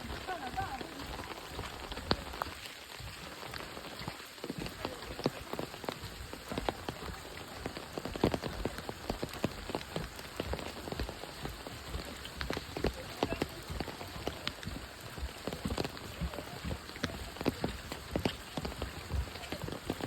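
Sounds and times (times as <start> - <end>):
rain drops tapping: 0.0 - 20.0
steady rain patter: 0.0 - 20.0.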